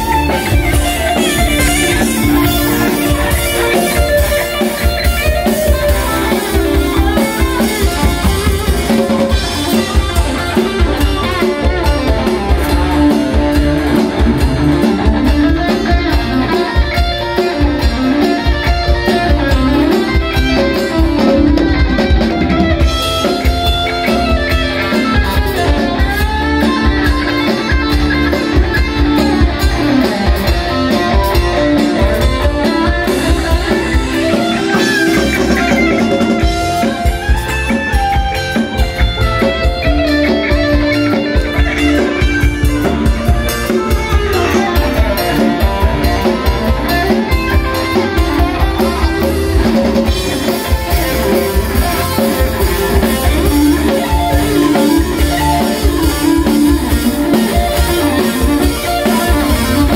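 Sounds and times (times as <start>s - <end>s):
drum kit beat: 0.0s - 59.9s
electric guitar melody: 0.0s - 59.9s.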